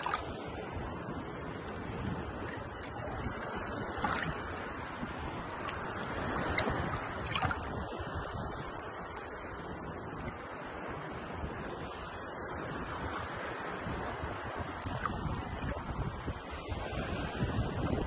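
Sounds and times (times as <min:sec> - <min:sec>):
ocean waves and surf: 0:00.0 - 0:18.0.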